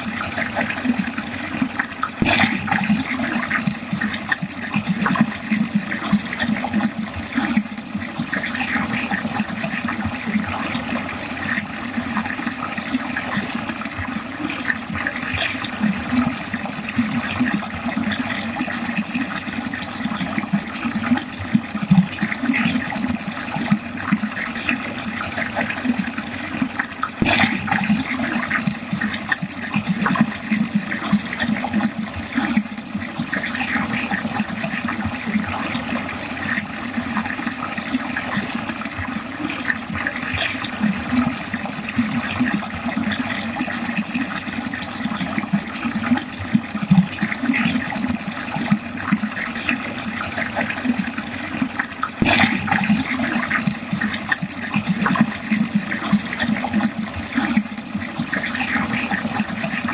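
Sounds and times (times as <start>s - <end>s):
water gurgling down a drain: 0.0s - 59.9s.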